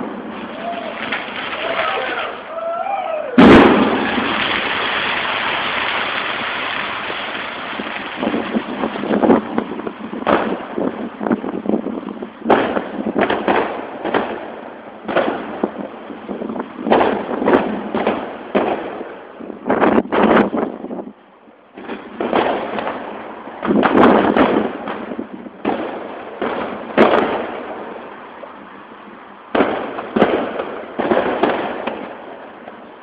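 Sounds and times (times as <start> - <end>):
fireworks bangs and pops: 0.0 - 2.6, 3.4 - 33.0
fireworks crackling hiss: 0.0 - 33.0.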